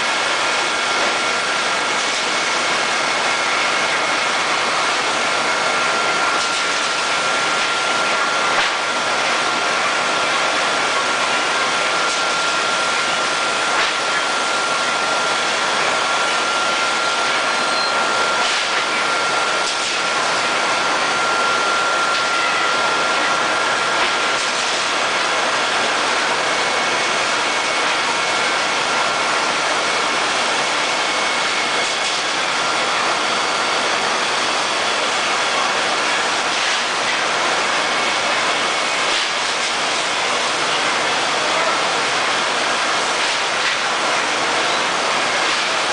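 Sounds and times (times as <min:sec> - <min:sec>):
thin machine whine: 0:00.0 - 0:45.9
washing machine hissing: 0:00.0 - 0:45.9.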